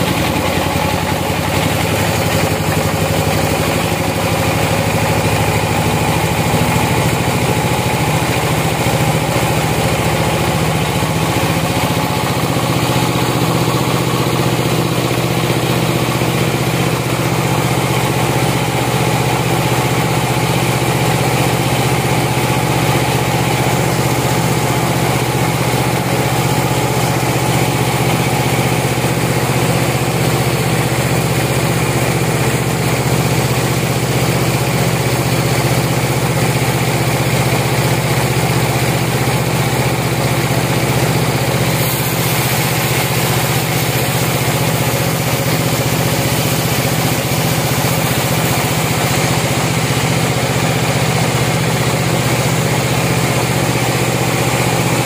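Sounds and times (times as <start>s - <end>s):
band sawmill droning: 0.0s - 55.0s.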